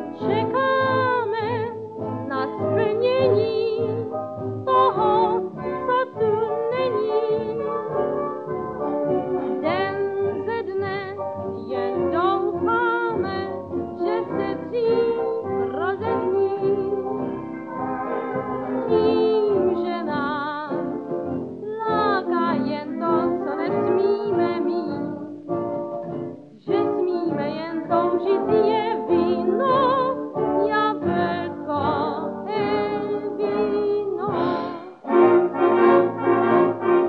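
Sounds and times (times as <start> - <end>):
person singing with vibrato: 0.0 - 8.2, 9.6 - 17.4, 18.1 - 20.9, 21.6 - 25.4, 26.6 - 36.7
instrumental accompaniment: 0.0 - 37.0.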